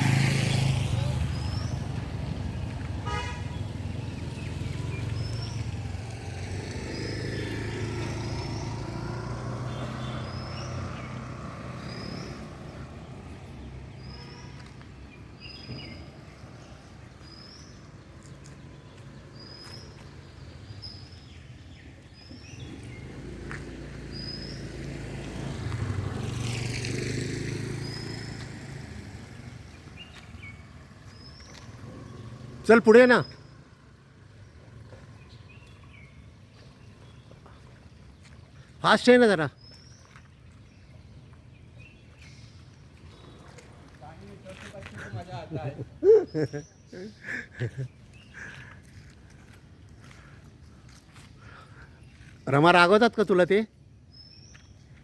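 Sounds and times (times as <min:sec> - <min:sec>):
traffic engines rumbling: 0:00.0 - 0:55.0.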